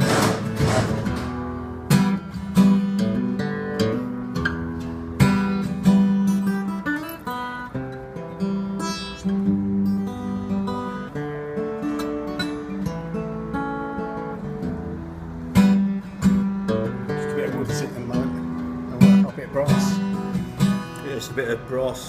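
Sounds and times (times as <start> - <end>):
acoustic guitar strummed and picked: 0.0 - 22.0.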